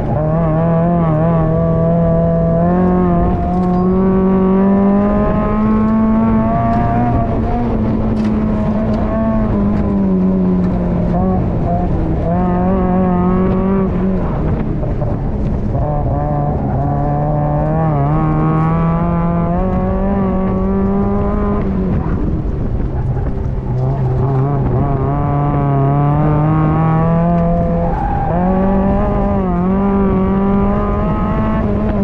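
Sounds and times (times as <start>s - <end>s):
car engine revving hard: 0.0s - 32.0s.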